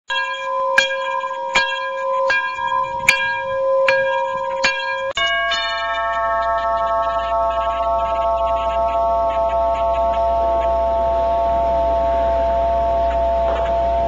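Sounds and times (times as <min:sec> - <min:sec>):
held tone with struck notes: 0:00.1 - 0:14.0
sustained chord: 0:00.1 - 0:14.0
low hum: 0:00.6 - 0:14.0.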